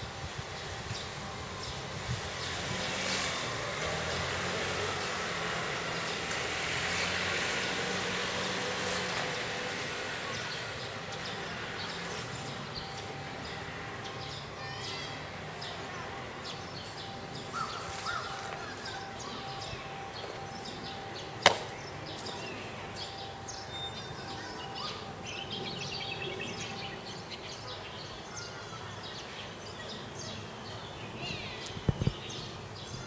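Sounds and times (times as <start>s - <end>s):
small birds chirping: 4.2s - 33.0s.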